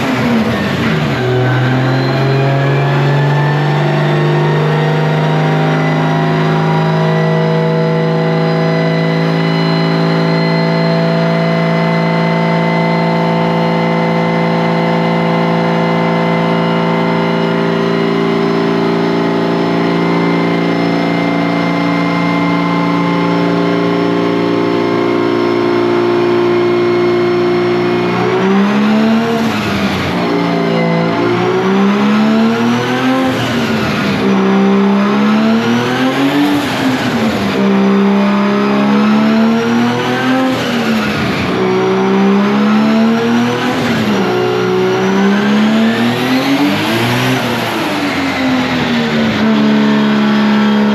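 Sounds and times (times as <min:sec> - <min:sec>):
turbocharged car engine revving: 0:00.0 - 0:50.9.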